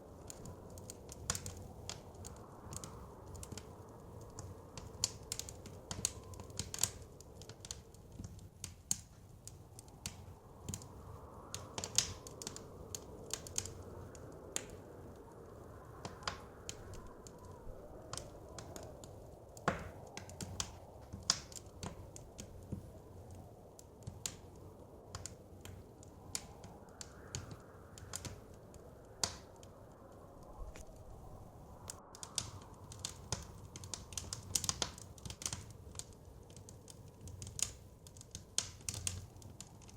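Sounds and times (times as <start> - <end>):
blizzard wind whooshing: 0.0 - 39.9
wood fire crackling and popping: 0.0 - 39.9.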